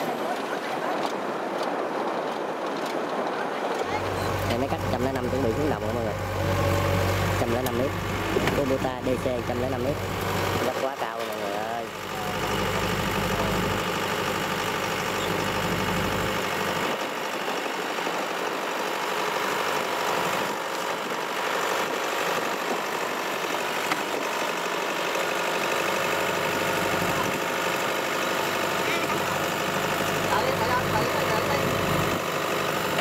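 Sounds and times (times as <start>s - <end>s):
diesel engine running: 3.8s - 33.0s.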